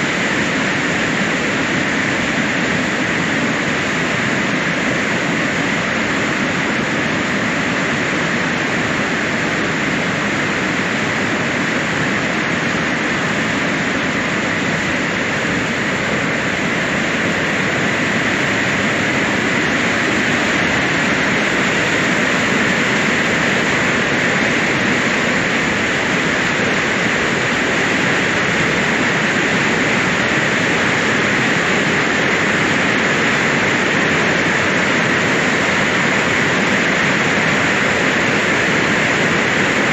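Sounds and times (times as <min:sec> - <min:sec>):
water pouring over dam: 0:00.0 - 0:39.9.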